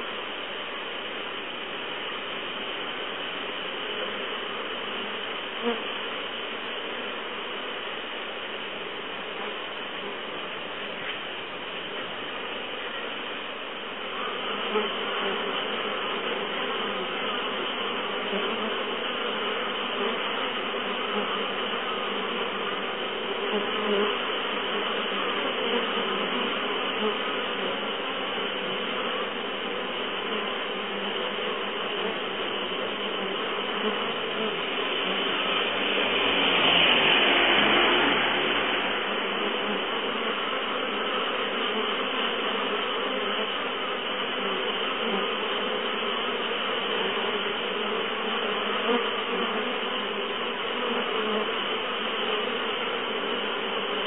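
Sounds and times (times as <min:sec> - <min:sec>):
honeybees buzzing: 0:00.0 - 0:54.0.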